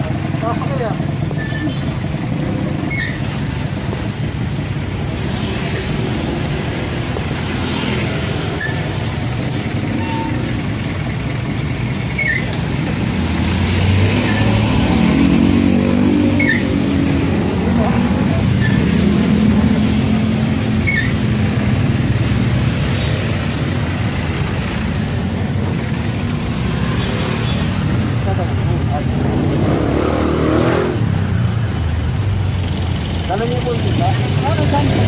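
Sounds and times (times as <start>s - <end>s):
traffic engines rumbling: 0.0s - 35.0s.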